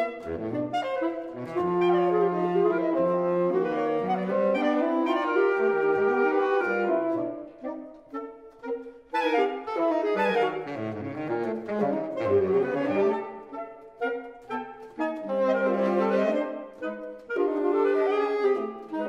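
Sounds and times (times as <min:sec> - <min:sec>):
saxophone trio playing: 0:00.0 - 0:19.0.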